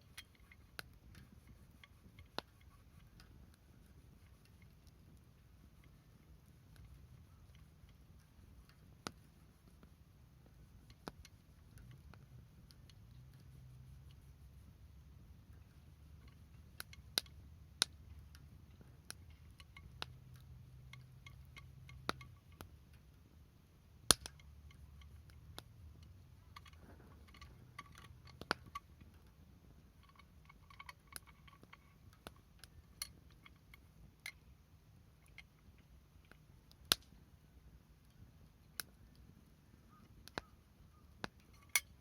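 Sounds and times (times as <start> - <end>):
campfire crackling and popping: 0.0 - 42.0
faint low rumble: 0.0 - 42.0.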